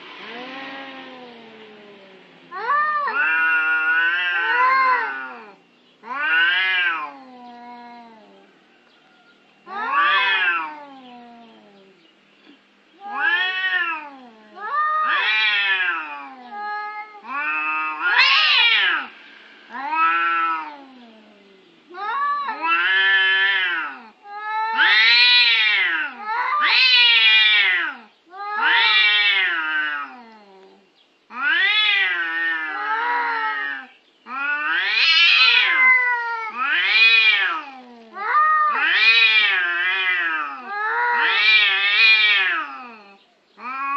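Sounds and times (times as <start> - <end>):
cats yowling: 0.0 - 8.7, 9.6 - 43.9.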